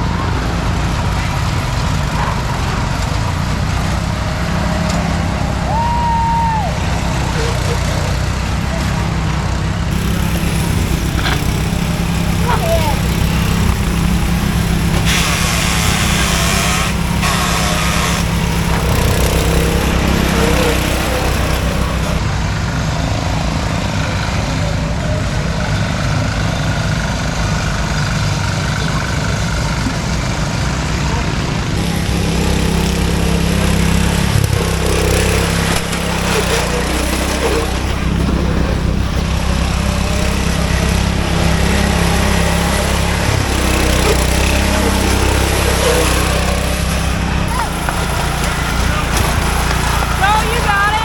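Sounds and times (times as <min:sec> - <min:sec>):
riding lawn mower engine revving: 0:00.0 - 0:51.0.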